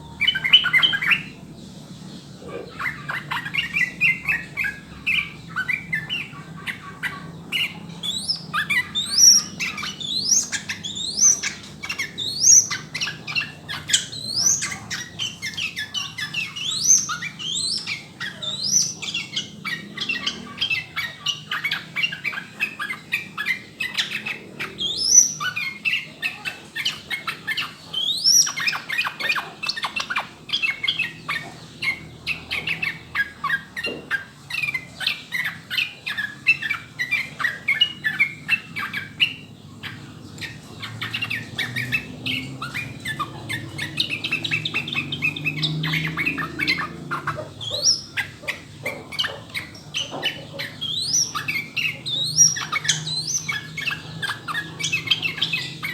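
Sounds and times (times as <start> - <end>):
bird chattering song: 0.0 - 55.9.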